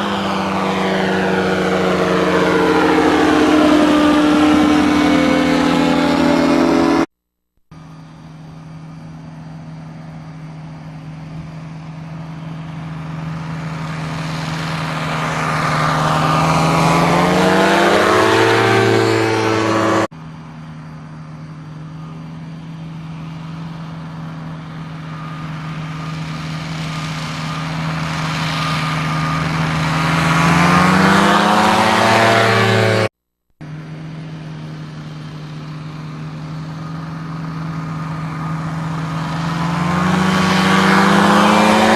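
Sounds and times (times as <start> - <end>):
ultralight aircraft engine droning: 0.0 - 7.1, 7.7 - 41.9.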